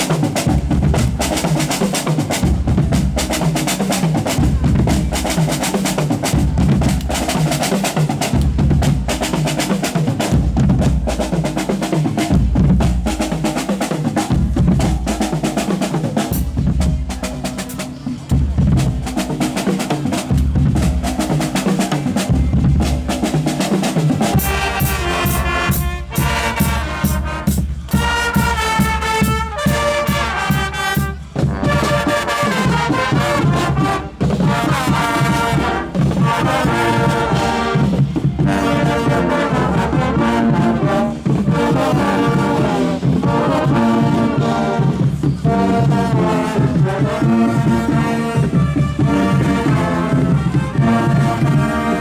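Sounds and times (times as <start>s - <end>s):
brass band playing rhythmic tune: 0.0s - 52.0s
drums: 0.0s - 52.0s.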